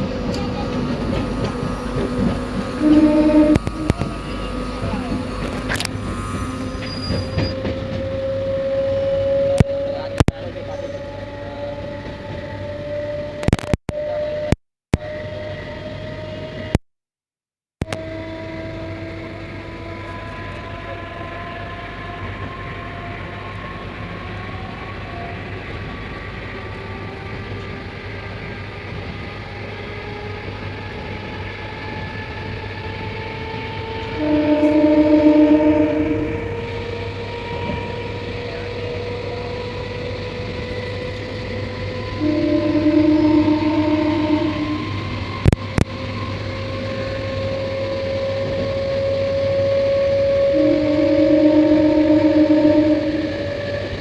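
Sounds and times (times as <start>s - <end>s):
train rumbling: 0.0s - 16.8s, 17.8s - 54.0s
train whine rising in pitch: 0.0s - 16.8s, 17.8s - 54.0s.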